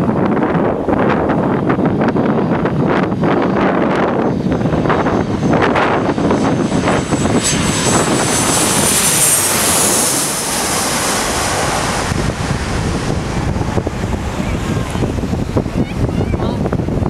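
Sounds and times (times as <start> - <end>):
jet airliner passing overhead: 0.0 - 17.0
wind buffeting microphone: 0.0 - 17.0.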